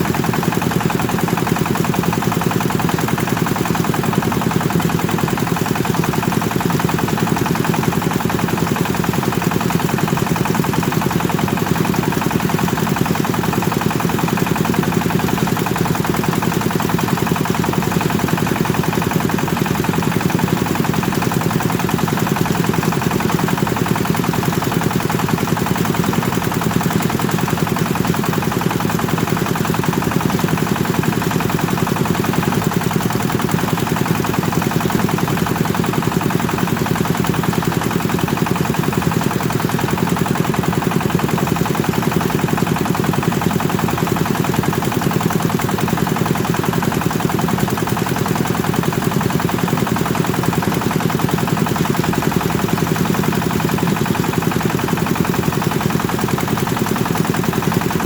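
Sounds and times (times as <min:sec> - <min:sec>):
thresher diesel engine knocking: 0:00.0 - 0:58.0.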